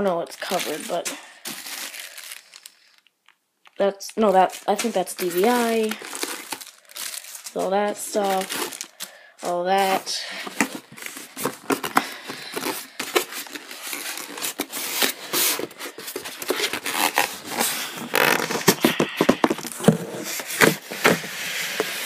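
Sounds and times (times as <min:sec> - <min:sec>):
styrofoam scraping and squeaking: 0:00.0 - 0:03.0, 0:04.2 - 0:09.1, 0:09.7 - 0:22.0
plastic wrapping crinkling: 0:00.0 - 0:22.0.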